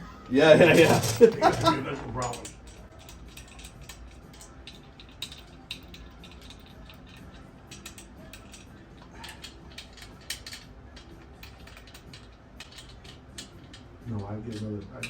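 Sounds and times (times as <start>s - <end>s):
hand tools clicking on metal: 0.7s - 15.0s.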